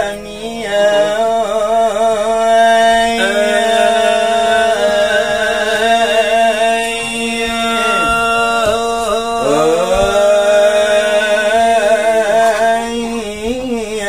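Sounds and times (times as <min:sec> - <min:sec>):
steady low drone note: 0:00.0 - 0:13.8
man singing ornamented melody: 0:00.0 - 0:14.0.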